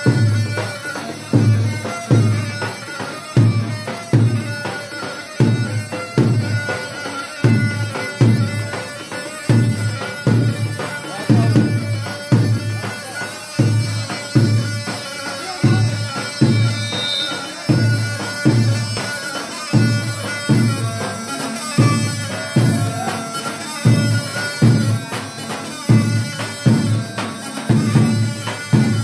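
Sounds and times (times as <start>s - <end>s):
reed pipe melody: 0.0s - 29.0s.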